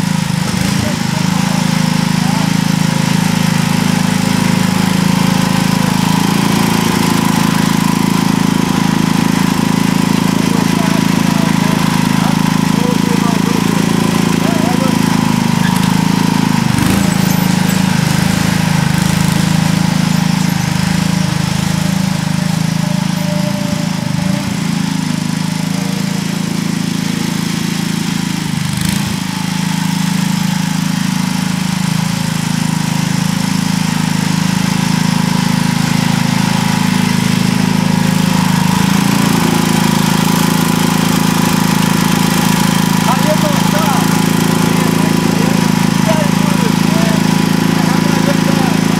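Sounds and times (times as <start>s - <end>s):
garden tractor engine running: 0.0s - 48.9s.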